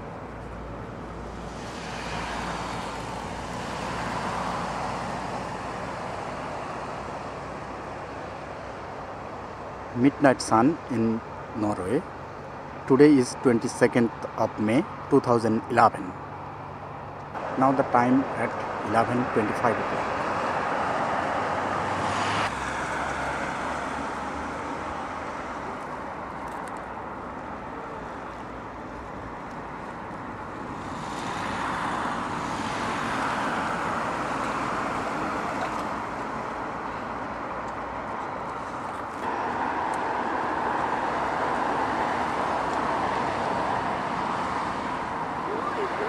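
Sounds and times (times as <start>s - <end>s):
cars passing on road: 0.0s - 46.0s.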